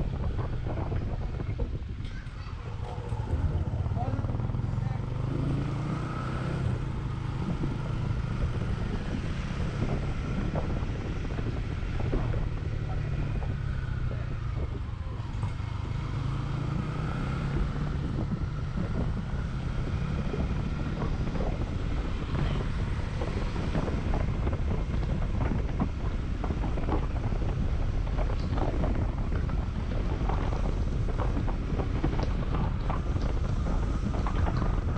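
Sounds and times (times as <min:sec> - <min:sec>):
motorcycle engine running: 0:00.0 - 0:34.9
wind buffeting microphone: 0:00.0 - 0:34.9.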